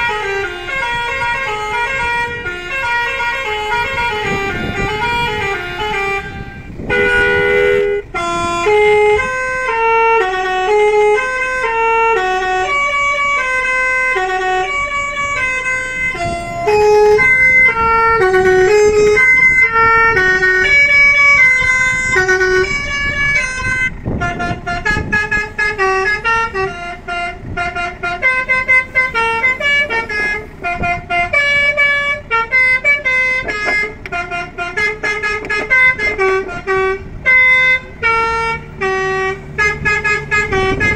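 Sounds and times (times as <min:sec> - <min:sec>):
multi-trumpet horn melody: 0:00.0 - 0:40.9.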